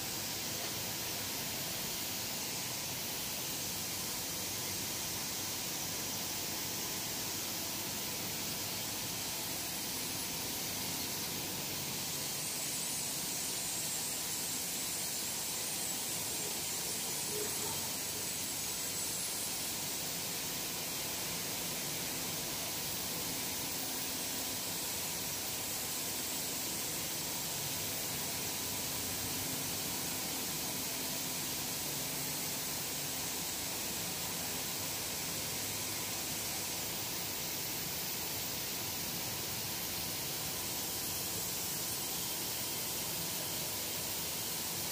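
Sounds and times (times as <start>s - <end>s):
production line hiss: 0.0s - 44.9s.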